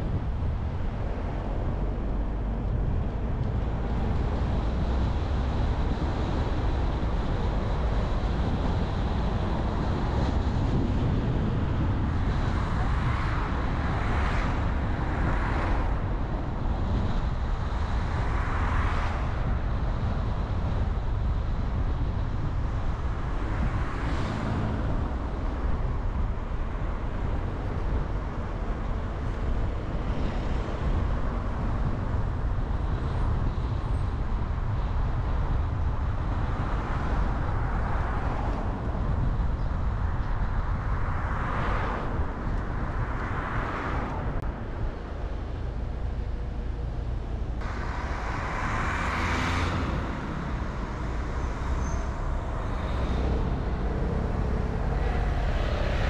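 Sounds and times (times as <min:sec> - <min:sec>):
car engine and tyres rumbling: 0:00.0 - 0:56.0
passing traffic rushes: 0:00.0 - 0:56.0.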